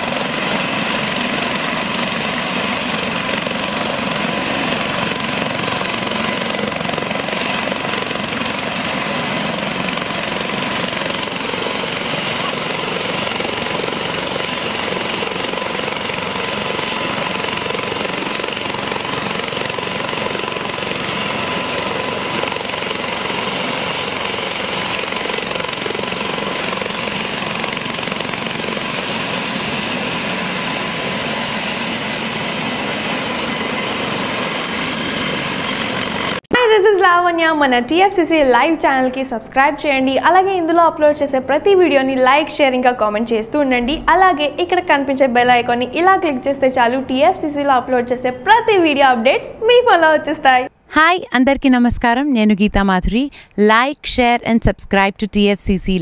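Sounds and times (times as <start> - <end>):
helicopter rotor and engine noise: 0.0 - 36.5, 37.1 - 56.0.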